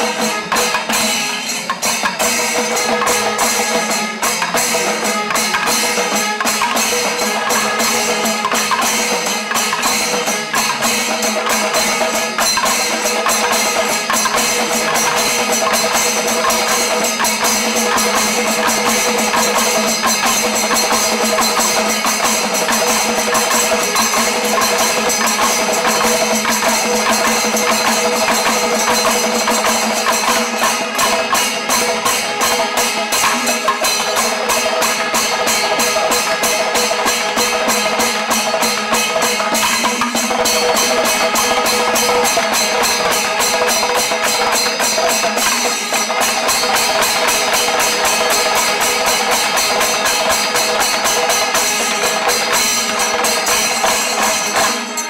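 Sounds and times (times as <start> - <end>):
hand cymbals: 0.0 - 55.0
massed drums: 0.0 - 55.0.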